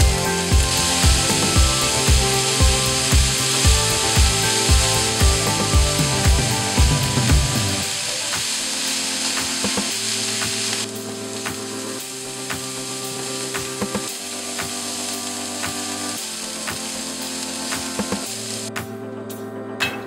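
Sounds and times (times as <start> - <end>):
vegetables sizzling in a pan: 0.0 - 18.7
soft background music: 0.0 - 20.0.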